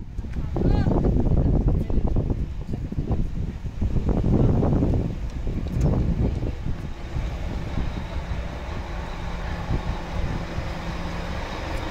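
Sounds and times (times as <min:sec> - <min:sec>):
bus diesel engine rumbling: 0:00.0 - 0:11.9.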